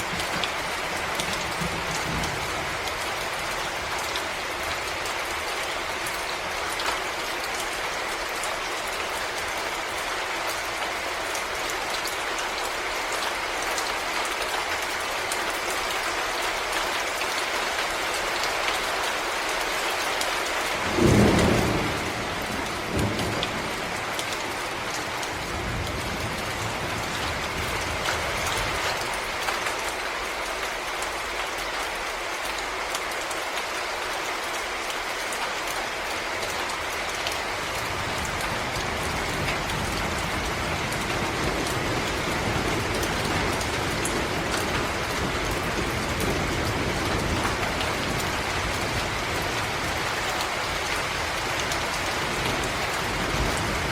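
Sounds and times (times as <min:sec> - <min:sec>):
rain falling in forest: 0:00.0 - 0:53.9.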